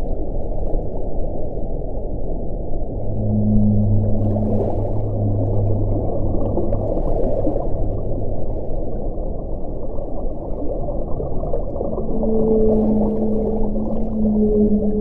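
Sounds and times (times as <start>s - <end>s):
wind rushing with moaning tone: 1.0s - 15.0s.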